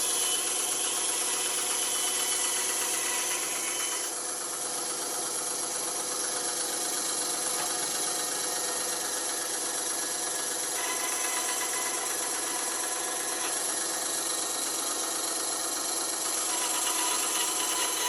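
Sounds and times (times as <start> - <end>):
band saw running: 0.0 - 18.0.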